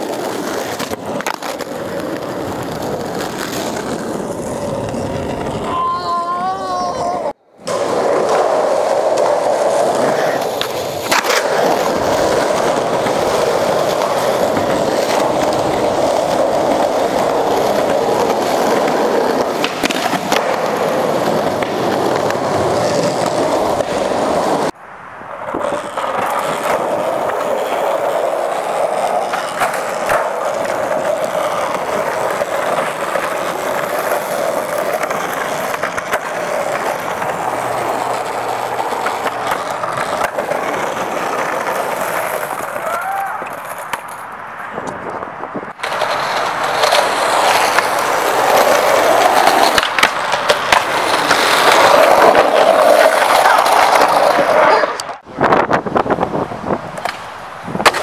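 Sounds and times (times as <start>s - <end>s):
skateboard clacks: 0.0s - 55.3s, 56.9s - 58.0s
skateboard wheels rolling on concrete: 0.0s - 58.0s.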